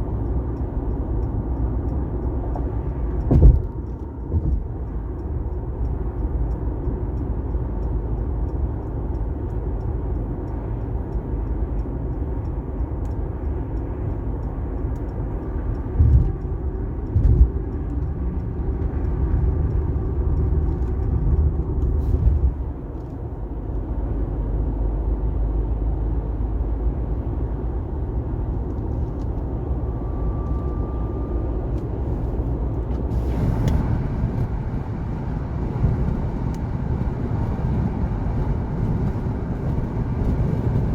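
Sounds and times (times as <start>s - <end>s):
road and tyre rumble: 0.0s - 40.9s.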